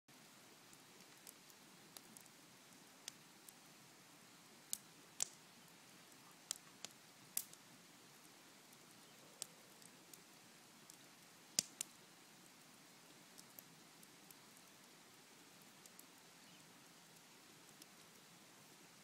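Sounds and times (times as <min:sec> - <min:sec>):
campfire wood crackling: 0:00.1 - 0:19.0
faint steady hiss: 0:00.1 - 0:19.0.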